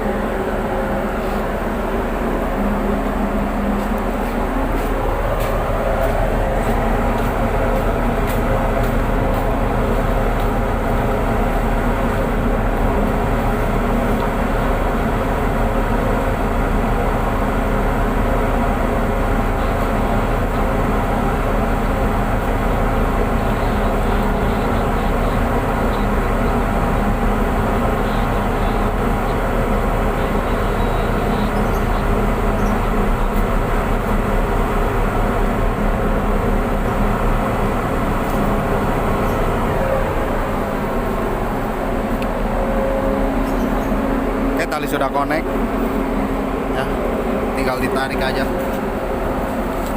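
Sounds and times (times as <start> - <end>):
diesel engines droning: 0.0 - 49.9.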